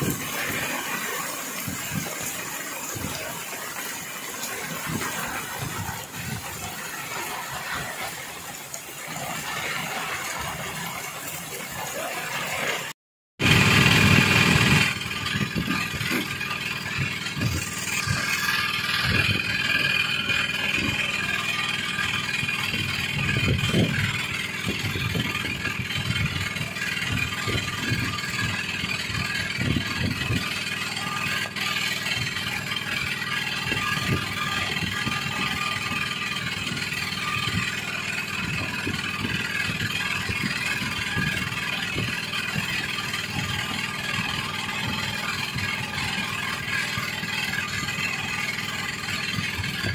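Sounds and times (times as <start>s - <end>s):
boat engine running: 0.0s - 49.9s
rough sea washing against boat: 0.0s - 49.9s
wind: 0.0s - 49.9s.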